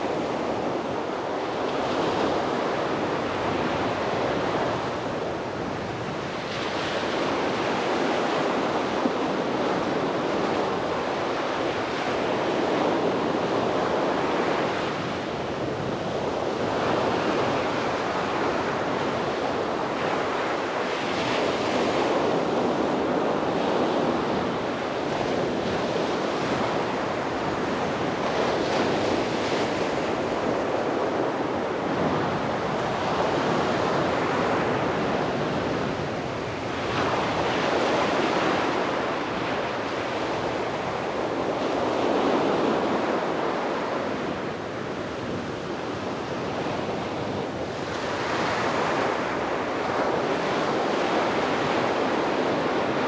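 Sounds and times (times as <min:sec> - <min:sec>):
sea waves breaking on shore: 0:00.0 - 0:53.0
wind on microphone: 0:00.0 - 0:53.0.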